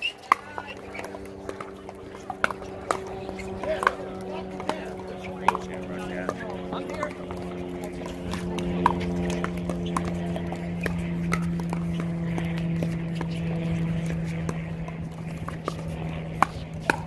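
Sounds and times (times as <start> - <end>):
distant voices: 0.0 - 17.0
steady low hum: 0.0 - 17.0
paddles striking plastic ball: 0.2 - 17.0.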